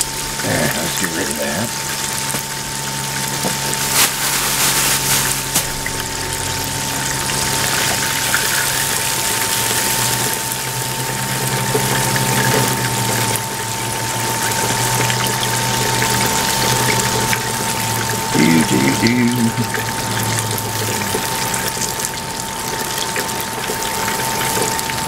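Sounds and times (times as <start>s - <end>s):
chicken deep-frying in oil: 0.0s - 25.0s.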